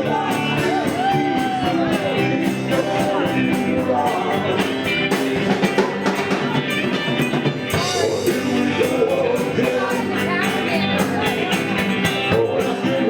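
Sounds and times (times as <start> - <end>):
drum kit beat: 0.0 - 13.0
live rock band playing: 0.0 - 13.0.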